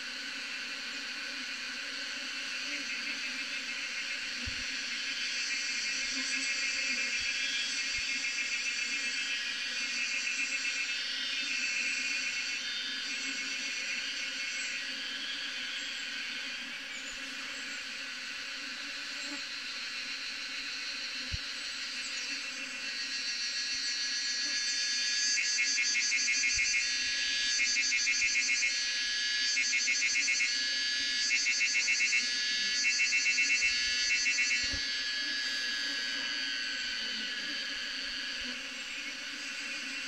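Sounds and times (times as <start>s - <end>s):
insect chorus: 0.0s - 40.0s
low hum of bee swarm: 0.0s - 40.0s
pulsed insect song: 0.1s - 40.0s.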